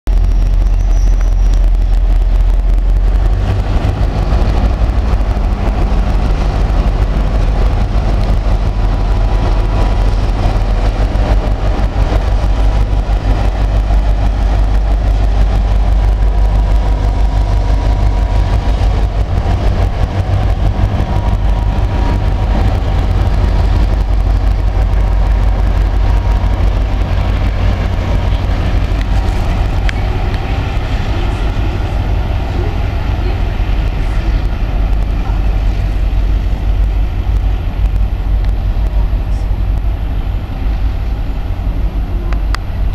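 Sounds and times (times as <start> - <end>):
diesel train rumbling: 0.0 - 42.9.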